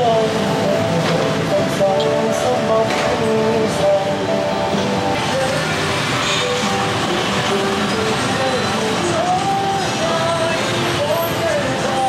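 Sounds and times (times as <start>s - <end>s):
gliding melody line: 0.0s - 11.5s
steady wash of noise: 0.0s - 12.0s.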